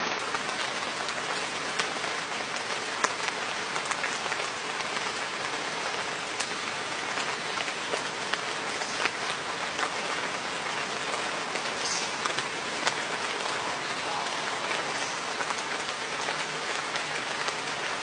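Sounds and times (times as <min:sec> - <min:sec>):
crackles and clicks: 0:00.0 - 0:18.0.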